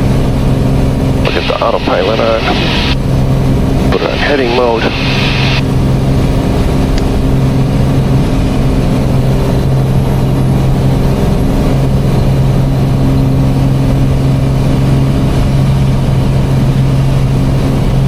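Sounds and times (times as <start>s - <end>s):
aircraft engine and propeller droning: 0.0s - 18.0s.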